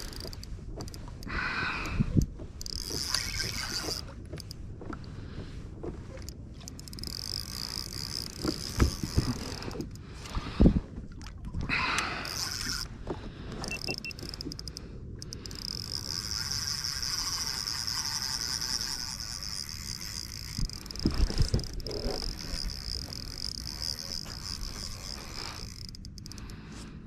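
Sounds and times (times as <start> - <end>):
fishing reel drag buzzing: 0.0 - 4.6, 6.2 - 10.0, 11.8 - 12.9, 13.5 - 26.9.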